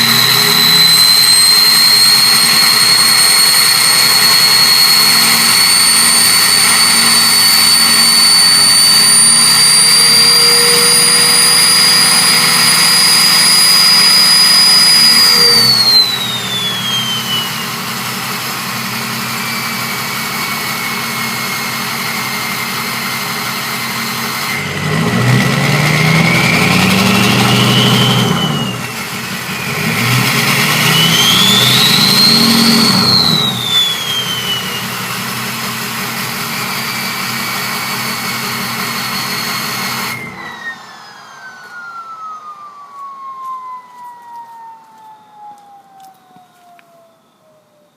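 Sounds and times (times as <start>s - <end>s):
diesel engine revving: 0.0s - 46.1s
turbo whistling: 0.0s - 47.9s.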